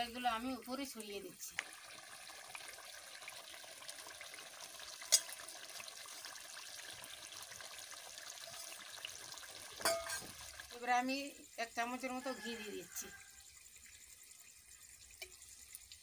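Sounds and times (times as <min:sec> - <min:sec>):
food sizzling in a metal pan: 0:00.0 - 0:16.0.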